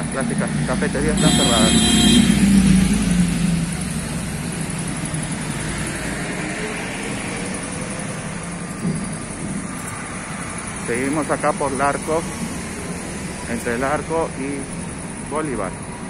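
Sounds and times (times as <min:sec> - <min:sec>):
traffic hum: 0:00.0 - 0:16.0
vehicle passing: 0:00.0 - 0:16.0.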